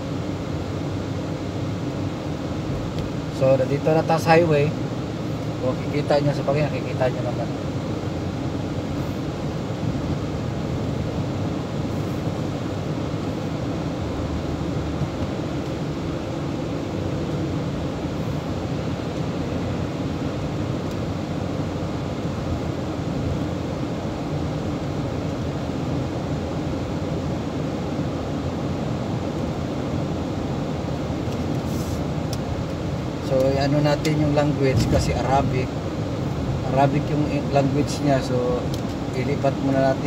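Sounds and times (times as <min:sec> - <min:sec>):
car cabin road hum: 0:00.0 - 0:40.0.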